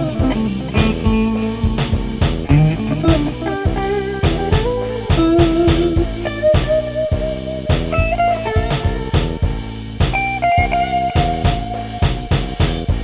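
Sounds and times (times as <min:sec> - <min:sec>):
electric guitar lead with bending notes: 0:00.0 - 0:13.0
steady drum beat: 0:00.0 - 0:13.0.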